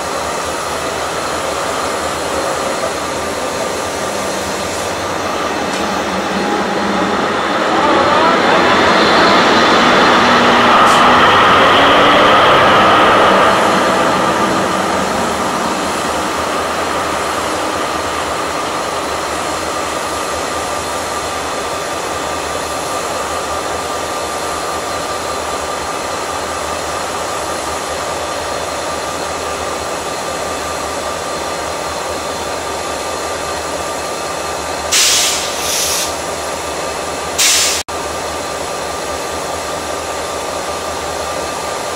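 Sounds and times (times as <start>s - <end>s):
diesel locomotive engine passing: 0.0s - 41.9s.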